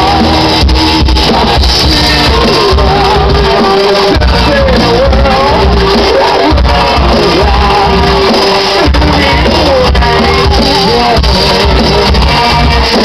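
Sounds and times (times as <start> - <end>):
live rock band playing: 0.0 - 13.0
man singing long notes: 0.0 - 13.0.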